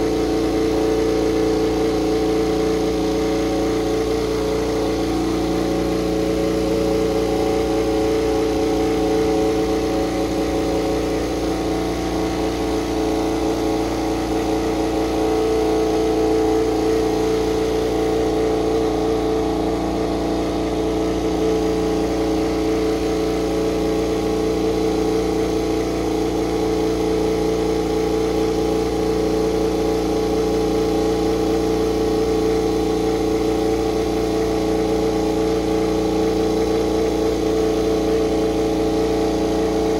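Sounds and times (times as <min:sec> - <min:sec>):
racing motorcycle engine running: 0:00.0 - 0:39.9.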